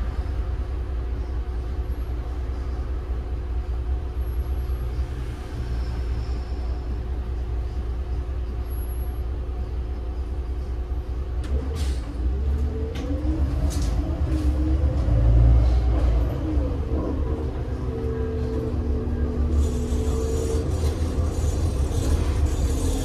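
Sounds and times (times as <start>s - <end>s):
bus diesel engine rumble: 0.0s - 23.0s.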